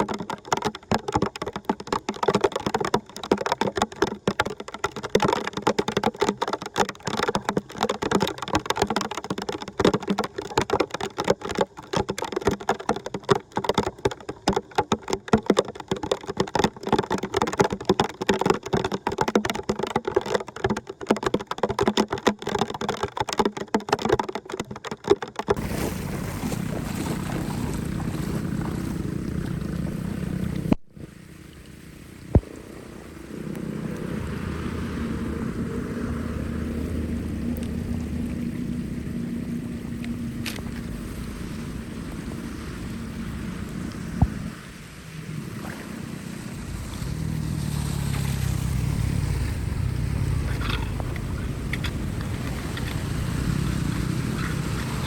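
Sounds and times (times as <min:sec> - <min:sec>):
flowing water rushing: 0:00.0 - 0:55.0
water splashing and gurgling: 0:00.0 - 0:55.0.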